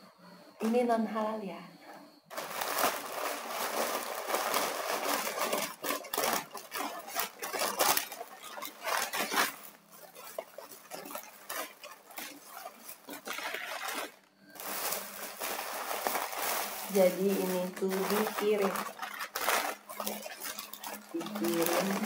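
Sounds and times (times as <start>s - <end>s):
food packaging rustling: 2.3s - 22.0s.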